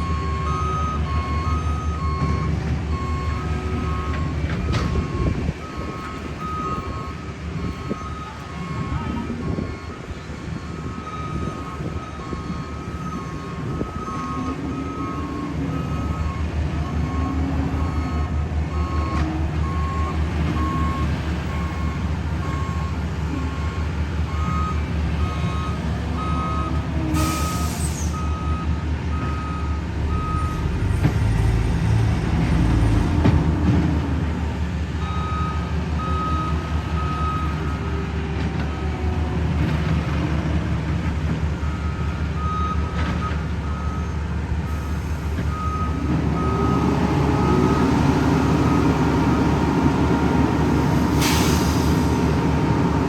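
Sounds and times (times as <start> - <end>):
reversing alarms beeping: 0.0 - 39.2, 41.6 - 53.0
heavy diesel paving equipment running: 0.0 - 53.0.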